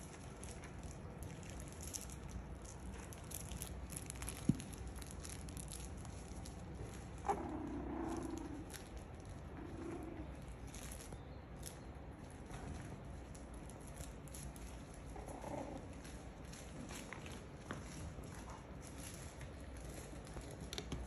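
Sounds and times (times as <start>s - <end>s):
puppies ticking and scuffling: 0.0s - 21.0s.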